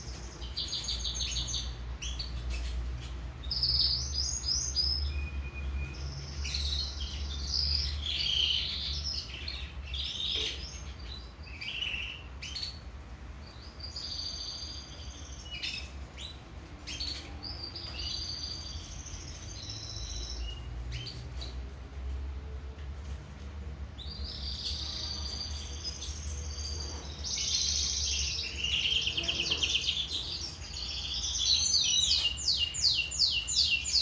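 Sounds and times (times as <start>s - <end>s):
canary singing trills: 0.0s - 21.7s, 23.9s - 34.0s.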